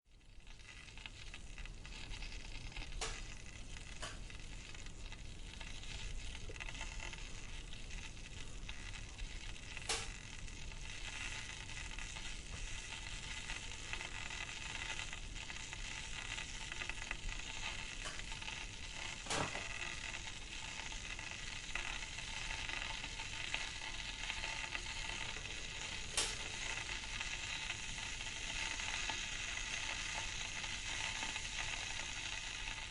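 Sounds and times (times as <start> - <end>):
liquid boiling and bubbling: 0.1 - 32.9.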